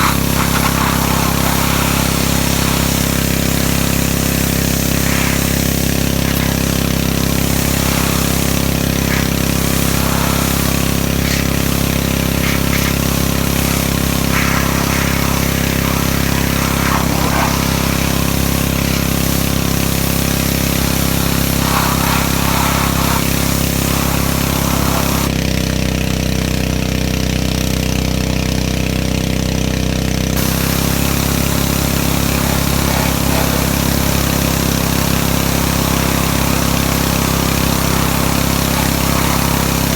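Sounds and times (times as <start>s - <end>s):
water spray hiss: 0.0s - 25.4s, 30.4s - 39.9s
pressure washer engine running: 0.0s - 39.9s.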